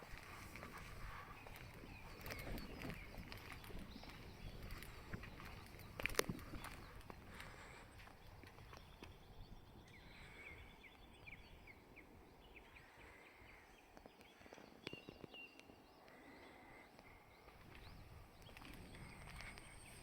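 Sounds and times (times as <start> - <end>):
faint bird chirps: 0.2 - 20.0.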